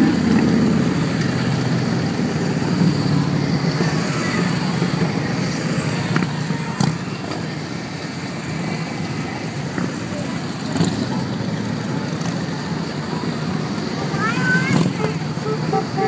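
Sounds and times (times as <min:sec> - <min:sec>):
motorcycles passing: 0:00.0 - 0:16.0.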